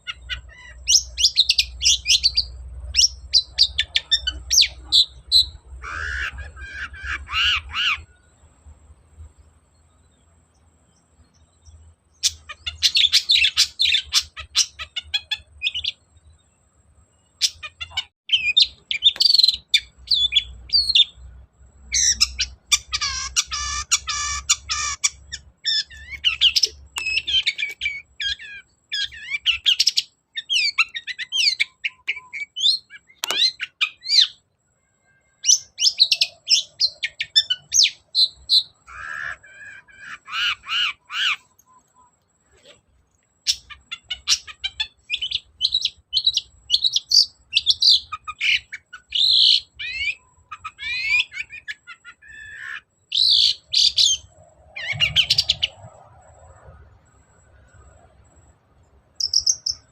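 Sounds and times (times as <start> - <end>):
bird singing chirps and chatter: 0.0 - 8.6, 9.4 - 16.7, 17.3 - 34.5, 35.1 - 58.5, 59.2 - 59.9.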